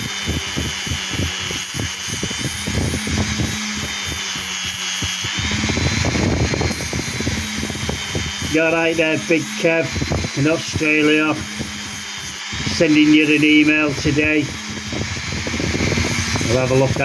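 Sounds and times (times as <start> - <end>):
electric power tool whining: 0.0 - 17.0.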